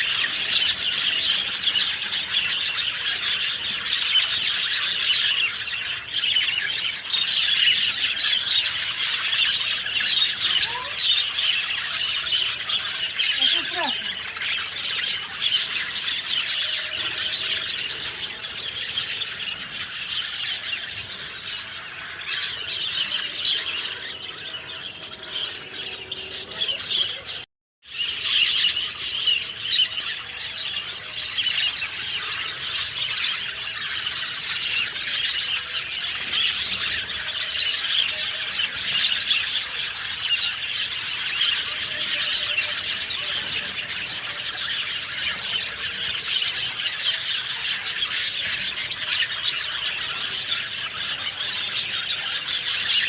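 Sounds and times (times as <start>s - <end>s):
birds chirping in chorus: 0.0s - 53.0s.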